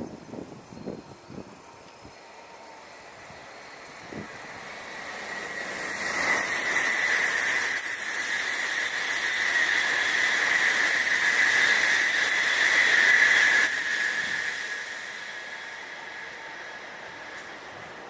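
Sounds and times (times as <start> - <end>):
train high whine: 0.0 - 18.0
train passing rushing hiss: 1.2 - 18.0.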